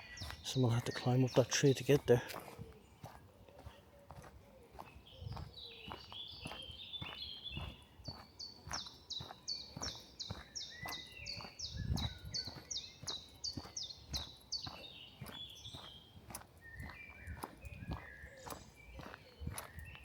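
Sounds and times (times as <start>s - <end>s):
footsteps on woodland trail: 0.0s - 20.0s.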